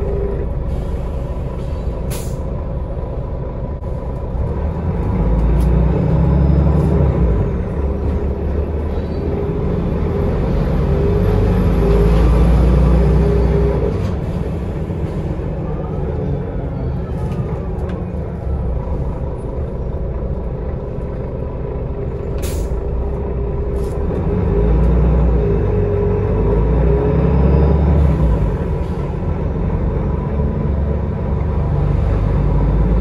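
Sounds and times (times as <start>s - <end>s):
bus engine rumbling: 0.0s - 33.0s.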